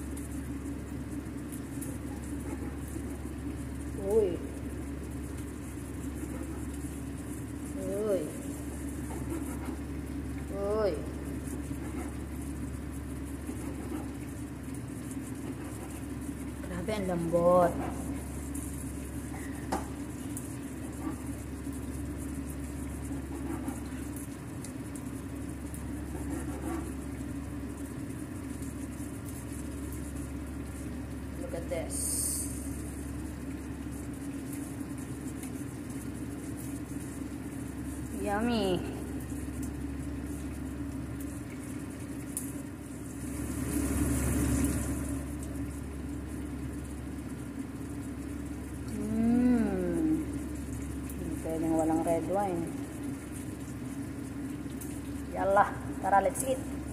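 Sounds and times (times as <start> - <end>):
low background hum: 0.0 - 56.9.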